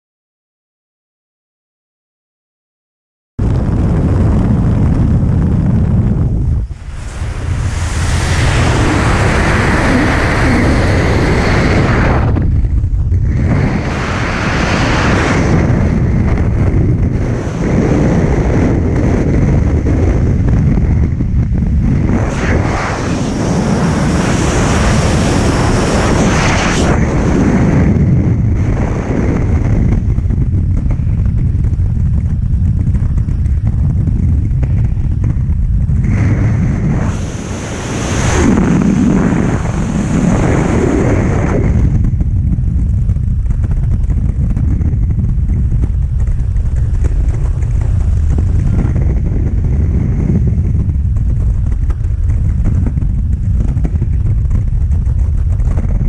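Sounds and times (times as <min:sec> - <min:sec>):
wind roaring over microphone: 0:03.4 - 0:56.0.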